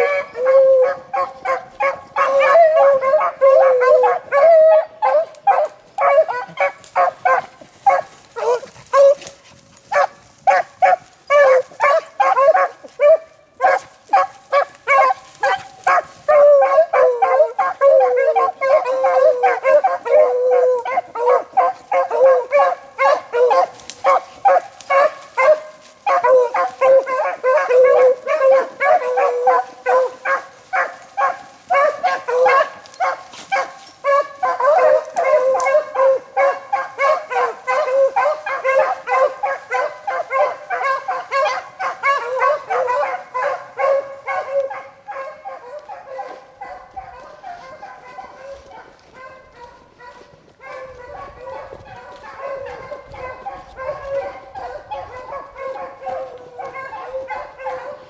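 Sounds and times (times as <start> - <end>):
dogs baying and barking: 0.0 - 58.0.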